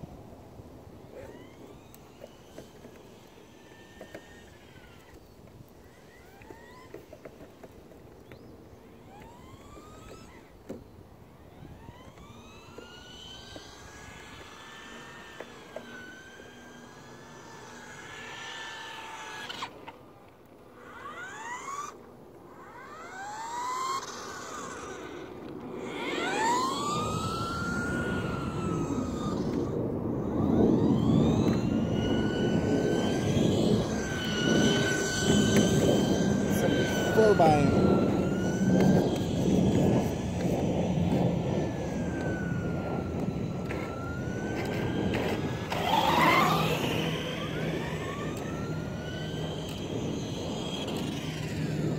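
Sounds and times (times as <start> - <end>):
rc car motors whining: 0.0 - 51.9.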